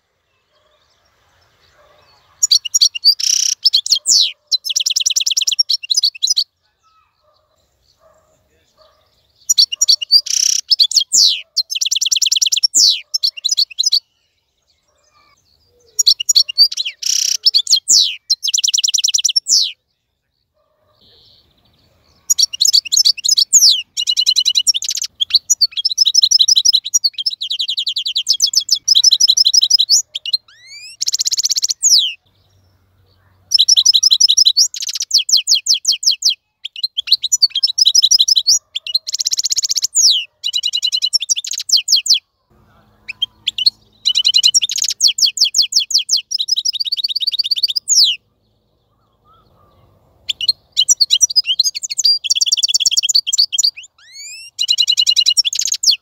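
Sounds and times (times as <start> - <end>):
goldfinch singing: 1.7 - 19.8, 21.0 - 32.6, 33.2 - 42.2, 42.8 - 56.0.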